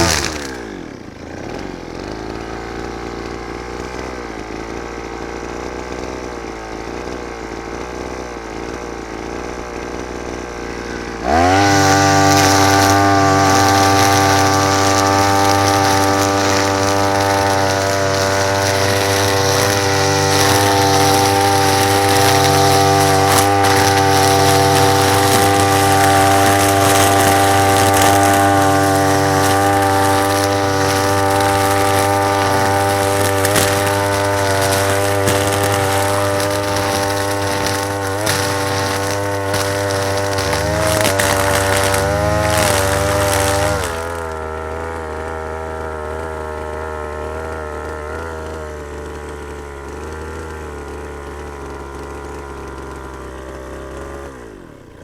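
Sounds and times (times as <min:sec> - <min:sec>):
brush cutter engine running: 0:00.0 - 0:55.0.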